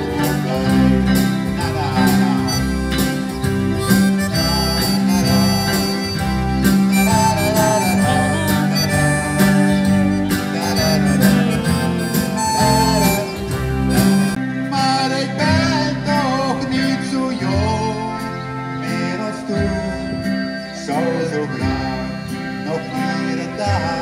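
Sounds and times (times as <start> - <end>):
harmonica melody: 0.0 - 24.0
low accompaniment: 0.0 - 24.0
strummed acoustic guitar: 0.0 - 24.0.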